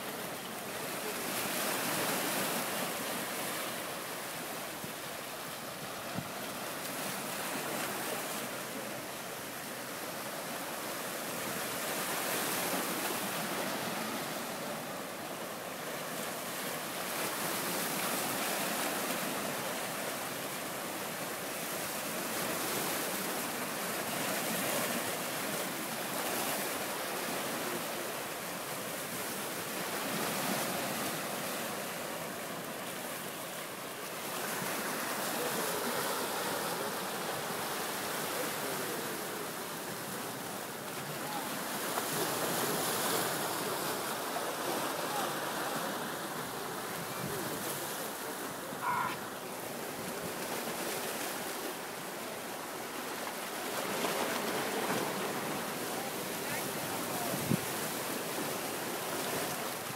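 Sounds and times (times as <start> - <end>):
sea surf breaking over rocks: 0.0 - 59.9.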